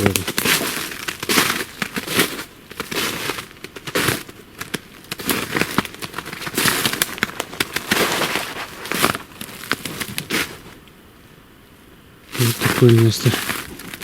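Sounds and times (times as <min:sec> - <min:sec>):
footsteps crunching through snow: 0:00.0 - 0:10.9, 0:12.4 - 0:14.0
twigs cracking underfoot: 0:00.0 - 0:11.0, 0:12.4 - 0:14.0.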